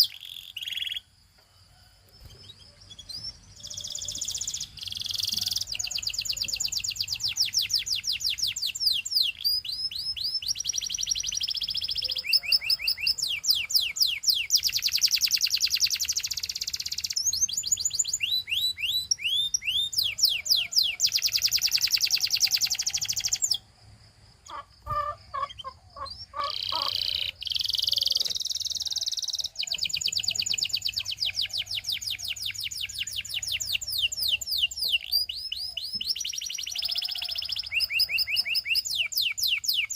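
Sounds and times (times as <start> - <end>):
canary singing trills: 0.0 - 1.2, 2.2 - 23.7, 24.4 - 39.9.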